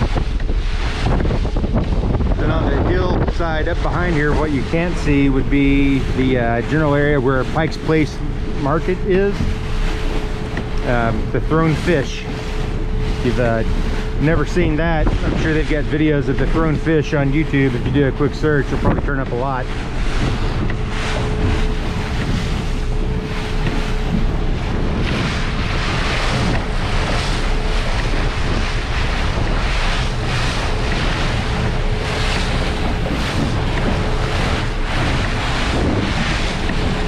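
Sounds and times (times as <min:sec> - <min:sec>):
outboard motor hum: 0:00.0 - 0:37.0
water splashing against hull: 0:00.0 - 0:37.0
wind buffeting microphone: 0:00.0 - 0:37.0.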